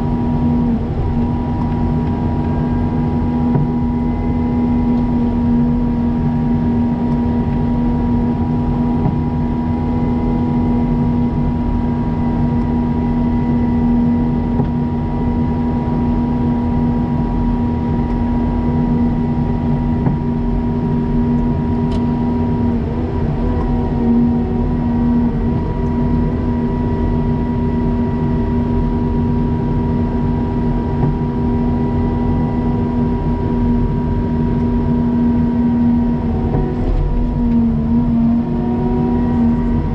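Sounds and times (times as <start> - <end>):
faint steady whine: 0.0 - 39.9
vehicle engine droning: 0.0 - 39.9.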